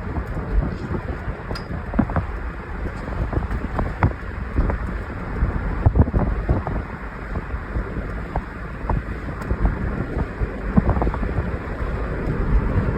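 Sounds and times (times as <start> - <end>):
construction machinery rumbling: 0.0 - 12.9
wind buffeting microphone: 0.0 - 12.9.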